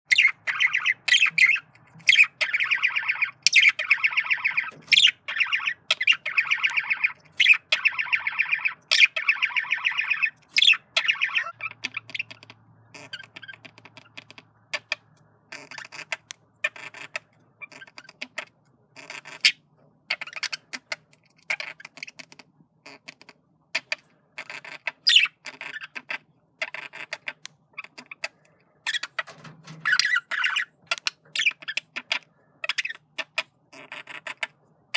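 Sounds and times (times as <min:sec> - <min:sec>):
budgerigar warbling: 0:00.1 - 0:22.0, 0:23.8 - 0:34.6.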